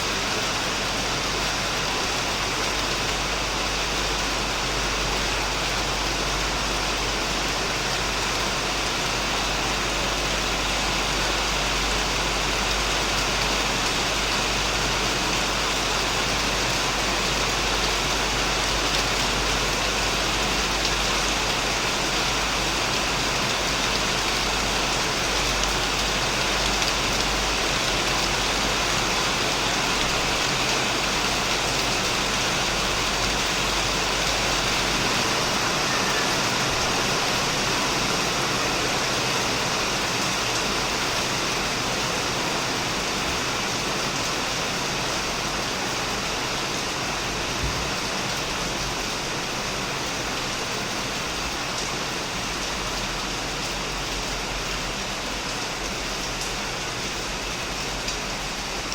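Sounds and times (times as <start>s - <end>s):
heavy rain on a shed: 0.0s - 58.9s.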